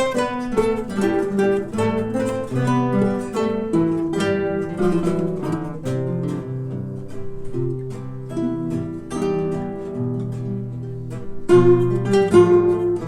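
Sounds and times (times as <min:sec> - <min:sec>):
acoustic guitar ensemble: 0:00.0 - 0:13.0.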